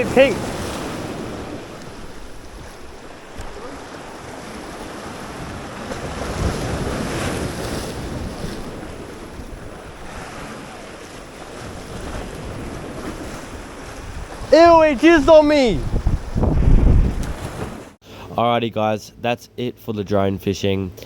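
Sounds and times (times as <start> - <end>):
wind buffeting microphone: 0.0 - 17.9
waves washing in: 0.0 - 18.0.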